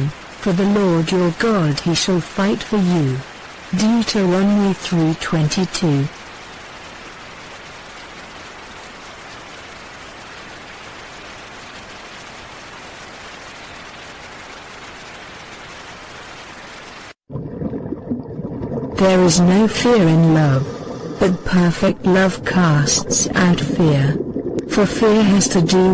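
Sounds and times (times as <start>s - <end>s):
steady rain: 0.0s - 17.2s, 19.0s - 25.9s.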